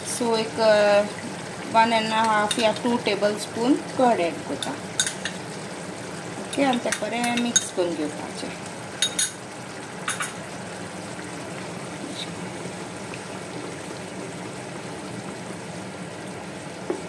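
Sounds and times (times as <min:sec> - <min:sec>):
gravy bubbling in a pan: 0:00.1 - 0:17.0.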